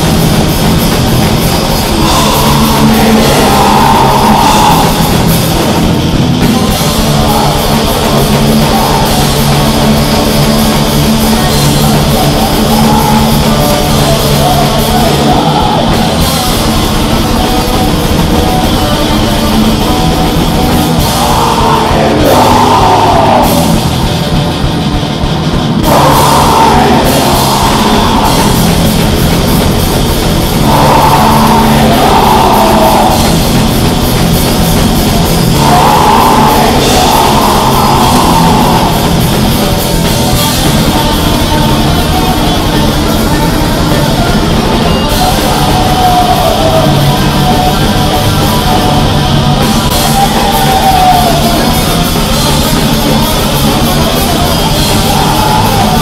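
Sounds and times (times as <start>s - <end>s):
person singing: 0.0s - 24.4s, 25.8s - 56.0s
metal band playing: 0.0s - 56.0s.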